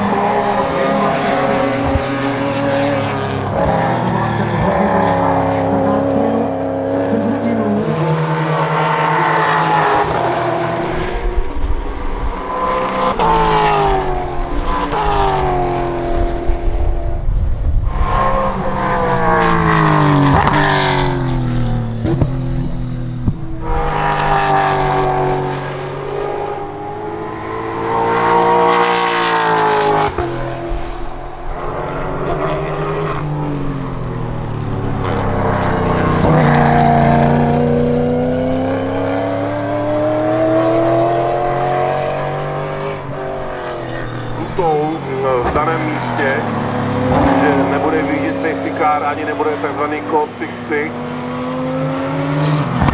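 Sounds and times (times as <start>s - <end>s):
race car engine passing: 0.0s - 52.9s.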